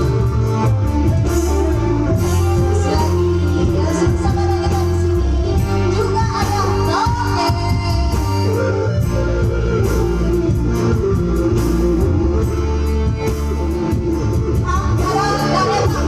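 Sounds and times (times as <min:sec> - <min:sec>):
guitar bass and drums: 0:00.0 - 0:16.0.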